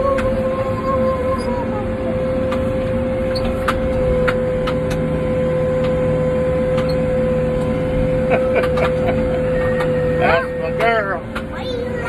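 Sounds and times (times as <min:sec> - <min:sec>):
diesel engine running: 0:00.0 - 0:12.0
high whine: 0:00.0 - 0:12.0.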